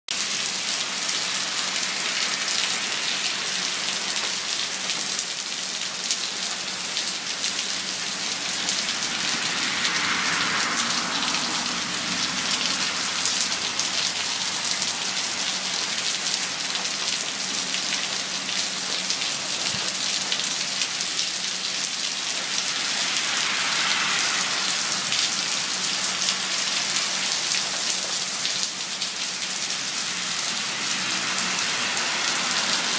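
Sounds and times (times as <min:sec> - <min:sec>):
steady rain falling: 0:00.1 - 0:32.9.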